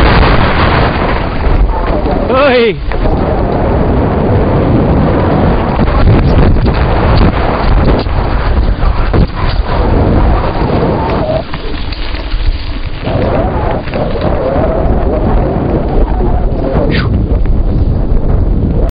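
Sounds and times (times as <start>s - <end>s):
bike rumbling and rattling: 0.0s - 18.9s
wind buffeting microphone: 0.0s - 18.9s.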